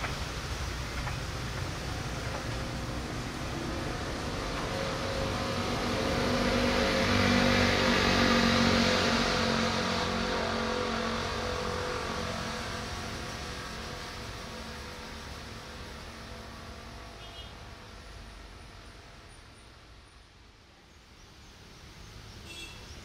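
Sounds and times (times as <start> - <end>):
train wheels on rail: 0.0 - 18.6
diesel engine hum: 0.0 - 19.2.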